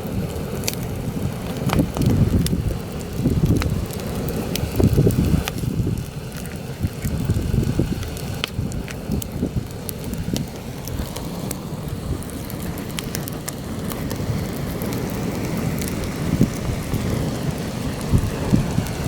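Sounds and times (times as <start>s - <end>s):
campfire crackling: 0.0s - 19.0s
wind buffeting microphone: 0.0s - 19.0s.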